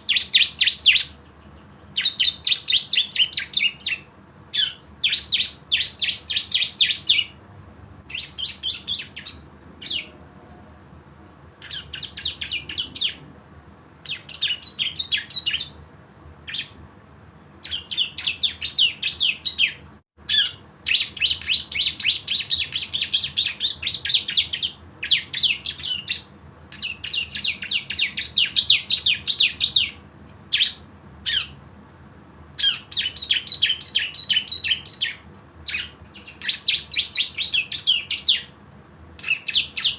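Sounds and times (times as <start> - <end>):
bird singing rapid trills: 0.0 - 7.4, 8.1 - 10.2, 11.6 - 13.2, 14.0 - 15.8, 16.5 - 16.8, 17.6 - 31.6, 32.6 - 38.5, 39.2 - 39.9.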